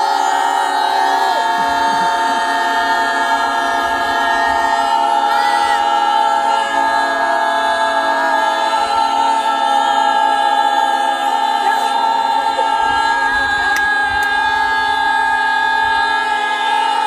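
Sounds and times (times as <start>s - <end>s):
group of voices holding a vowel: 0.0s - 17.0s.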